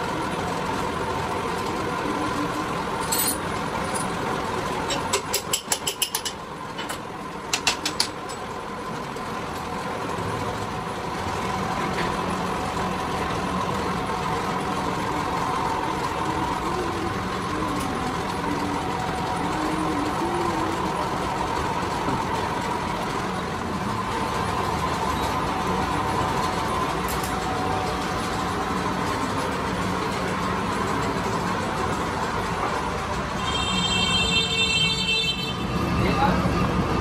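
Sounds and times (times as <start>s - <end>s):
machinery humming: 0.0s - 5.3s, 6.0s - 37.0s.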